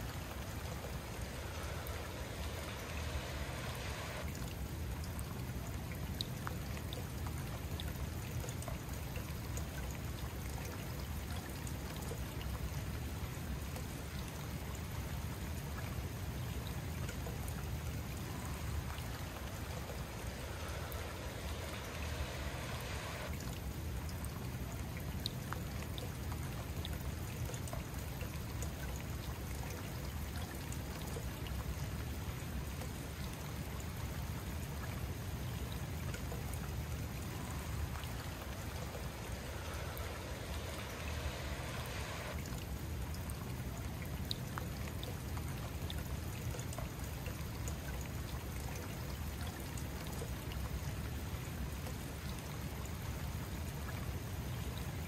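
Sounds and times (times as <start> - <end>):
fountain water pouring over stone: 0.0 - 55.0.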